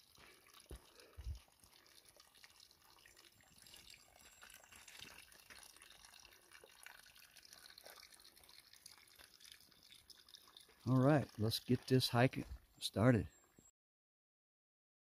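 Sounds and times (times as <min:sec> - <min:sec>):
water trickling from a pipe: 0:00.0 - 0:13.7.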